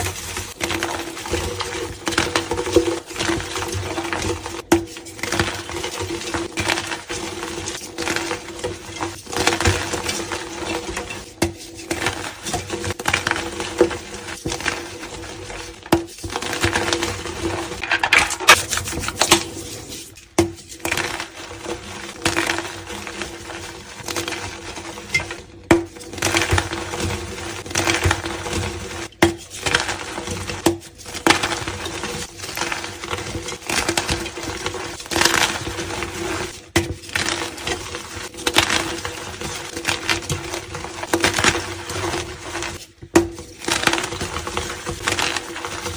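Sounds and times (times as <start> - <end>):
chalk crunching and crumbling: 0.0 - 45.9.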